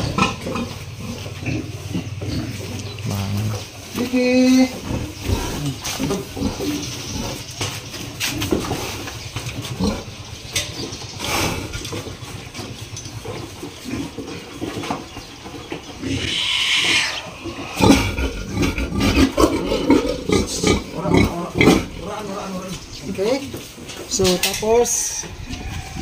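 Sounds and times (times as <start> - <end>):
pig grunting: 0.0 - 14.9, 15.8 - 26.0.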